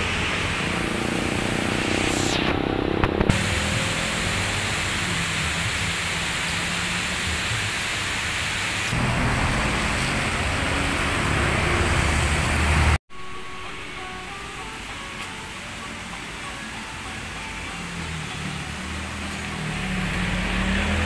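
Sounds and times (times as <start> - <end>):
rain hissing: 0.0 - 21.0.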